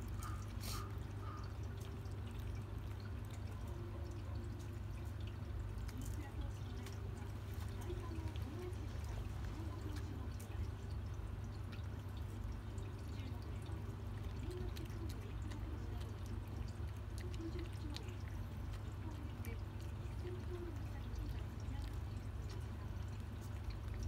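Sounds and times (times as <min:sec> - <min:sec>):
cat chewing and licking: 0:00.0 - 0:24.0.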